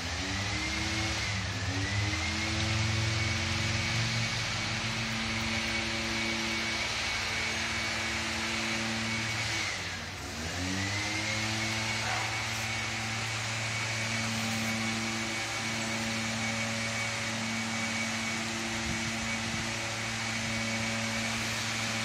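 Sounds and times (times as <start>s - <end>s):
motor humming steadily: 0.0s - 22.0s.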